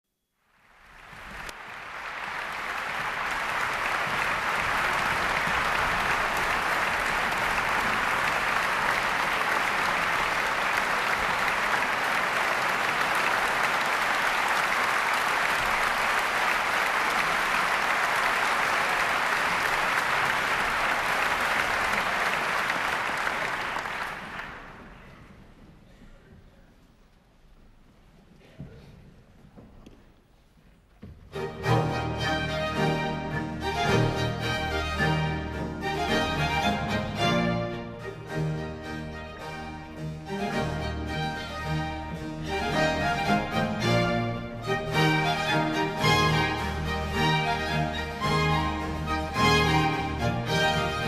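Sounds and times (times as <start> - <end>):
audience applauding: 0.4 - 25.4, 31.5 - 51.0.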